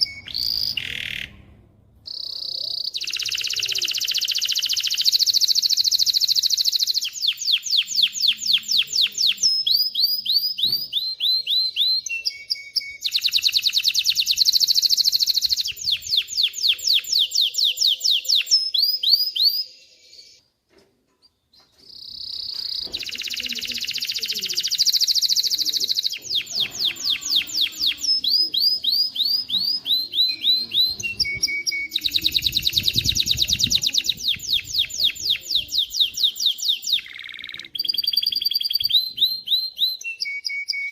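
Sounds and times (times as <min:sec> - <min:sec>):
canary singing trills: 0:00.0 - 0:20.5, 0:21.2 - 0:40.9.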